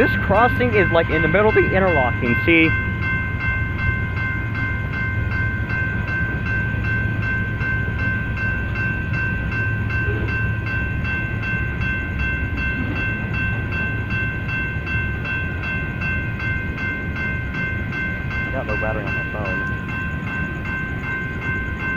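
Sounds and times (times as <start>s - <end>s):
crossing warning bell ringing: 0.0s - 21.9s
train cars rolling past: 0.0s - 21.9s.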